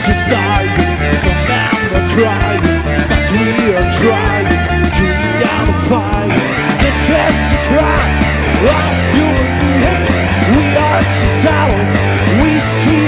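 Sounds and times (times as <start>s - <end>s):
bass guitar: 0.0s - 13.0s
drums: 0.0s - 13.0s
electric guitar bending notes: 0.0s - 13.0s.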